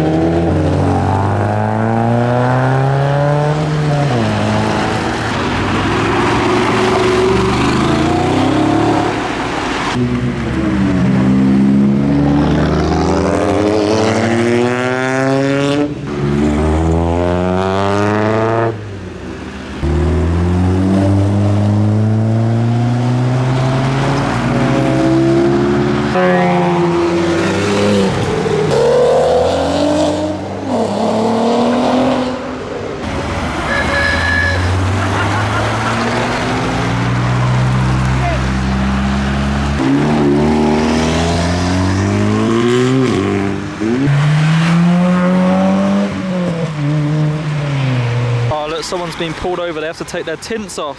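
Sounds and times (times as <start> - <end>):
car engines revving hard: 0.0 - 50.9.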